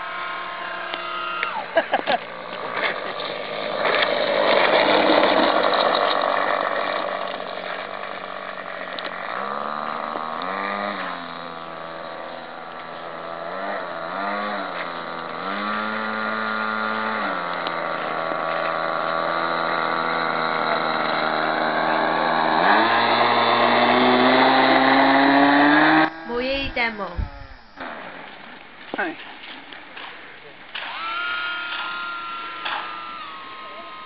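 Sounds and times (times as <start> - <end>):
model plane engine revving: 0.0 - 34.0.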